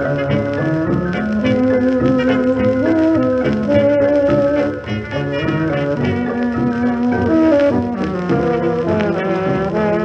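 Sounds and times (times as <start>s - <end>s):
dance band on old record: 0.0s - 10.0s.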